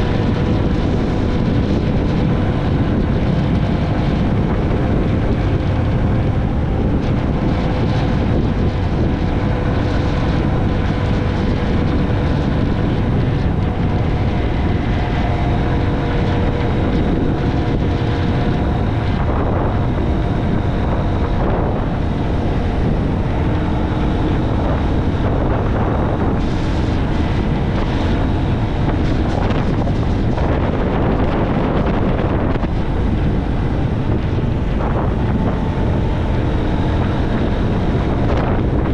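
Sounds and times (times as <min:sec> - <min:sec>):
motorcycle engine hum: 0:00.0 - 0:38.9
wind buffeting microphone: 0:00.0 - 0:38.9.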